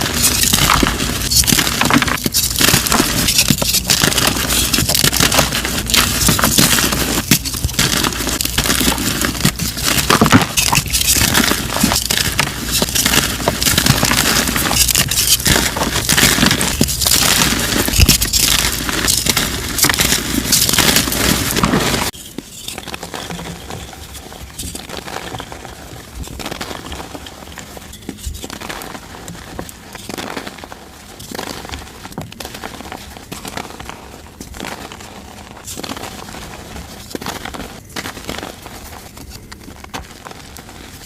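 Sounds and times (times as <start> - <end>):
chalk crunching and crackling: 0.0 - 41.0
fine chalk crumbling: 0.0 - 41.0.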